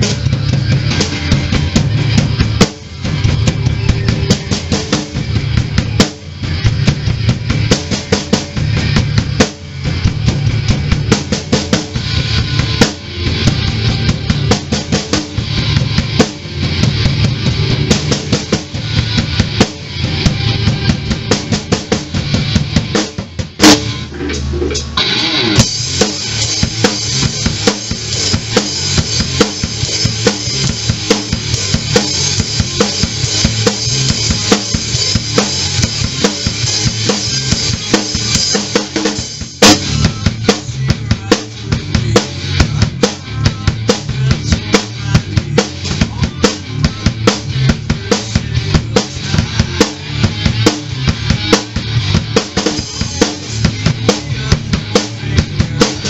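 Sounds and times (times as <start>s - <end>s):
rock drum kit groove: 0.0s - 56.0s.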